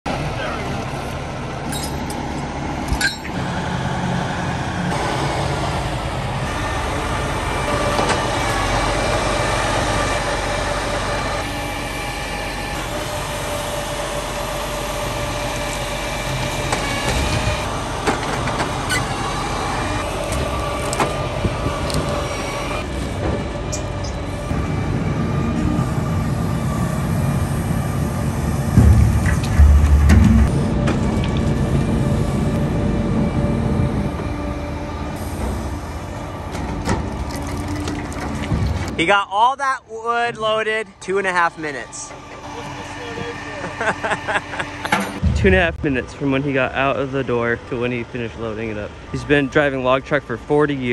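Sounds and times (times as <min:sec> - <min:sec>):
truck engine running: 0:00.1 - 0:39.0, 0:40.4 - 0:50.9
hydraulic whine: 0:00.6 - 0:39.0, 0:41.2 - 0:50.9.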